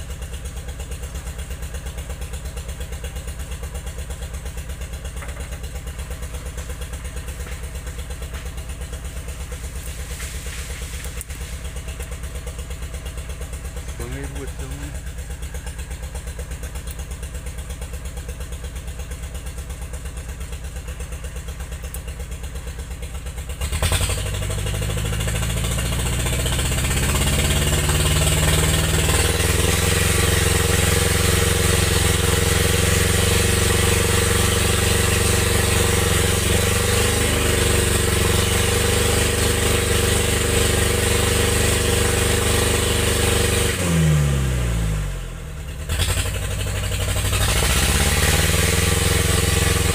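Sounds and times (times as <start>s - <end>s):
engine idling and revving: 0.0s - 49.9s.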